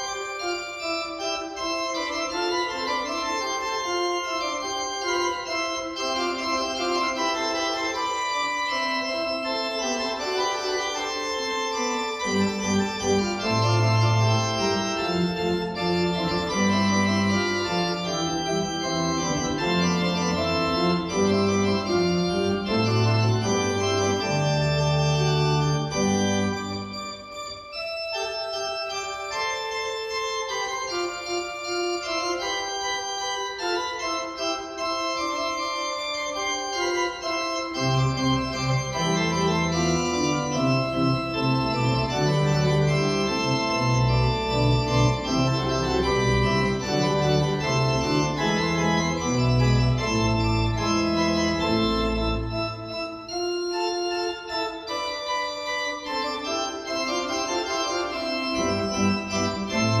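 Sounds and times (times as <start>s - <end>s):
church organ chords: 0.0s - 60.0s.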